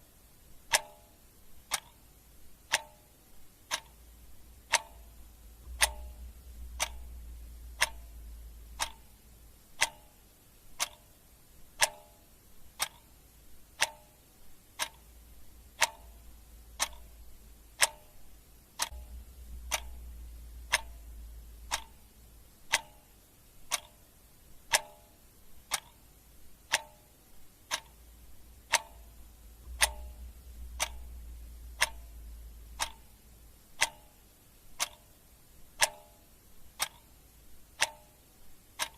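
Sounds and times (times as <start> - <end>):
clock ticking: 0.0 - 38.9
faint low rumble: 0.0 - 38.9.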